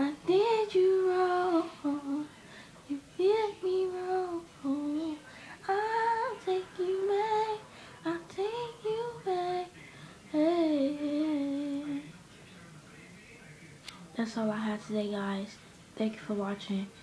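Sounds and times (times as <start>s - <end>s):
woman singing unaccompanied: 0.0s - 12.1s, 14.2s - 17.0s.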